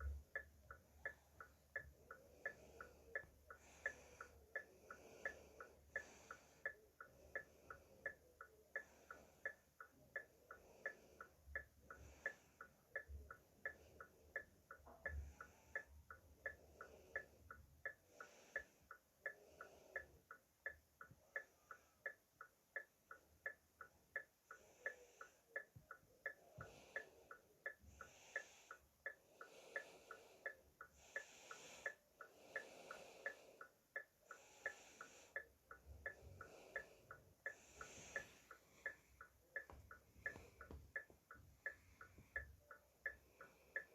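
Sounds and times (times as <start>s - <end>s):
flasher relay ticking: 0.0s - 43.9s.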